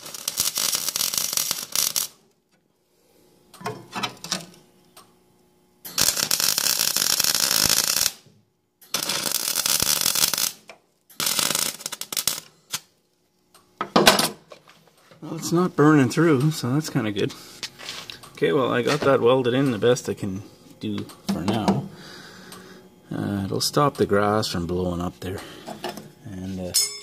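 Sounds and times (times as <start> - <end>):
arc welder crackling: 0.0 - 2.6, 3.2 - 13.9, 14.6 - 26.7
faint welder sputters: 0.0 - 26.7.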